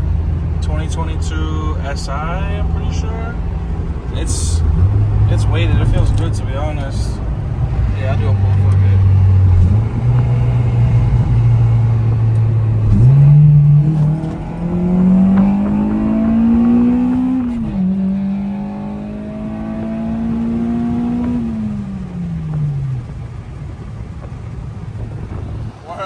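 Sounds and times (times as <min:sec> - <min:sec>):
car engine revving at full throttle: 0:00.0 - 0:26.0.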